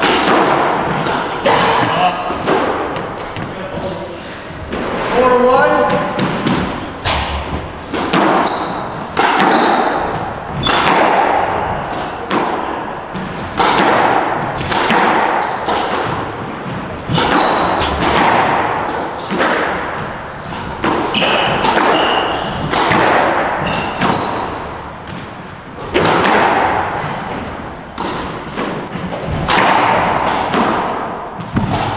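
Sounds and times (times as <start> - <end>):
squash ball hits: 0.0 - 3.9, 5.8 - 31.9
shoes squeaking on wooden floor: 0.6 - 13.6, 14.4 - 18.3, 19.1 - 26.0, 26.7 - 30.2.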